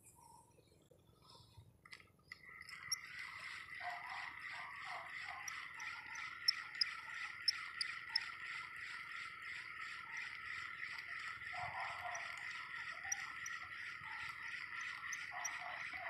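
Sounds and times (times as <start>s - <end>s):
fishing reel whirring: 2.2s - 16.0s.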